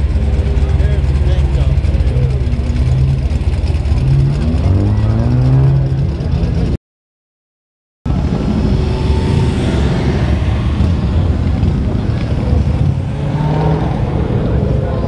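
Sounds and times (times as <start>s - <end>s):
car engines rumbling: 0.0s - 6.8s, 8.1s - 15.0s.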